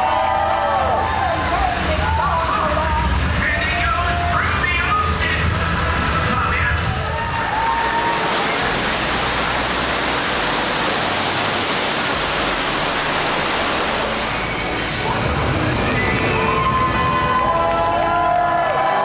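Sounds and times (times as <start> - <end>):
rushing circulating water: 0.0 - 19.0.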